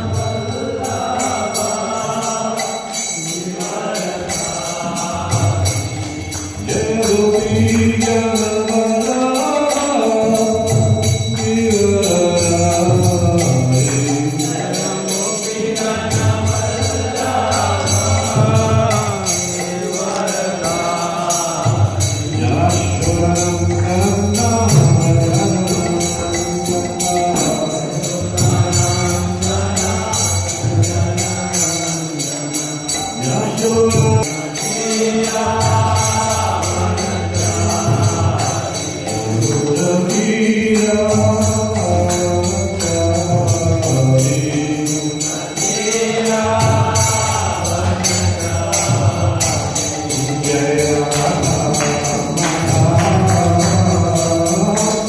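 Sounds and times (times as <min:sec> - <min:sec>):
hand cymbals jingling: 0:00.0 - 0:55.0
people chanting a melody: 0:00.0 - 0:55.0.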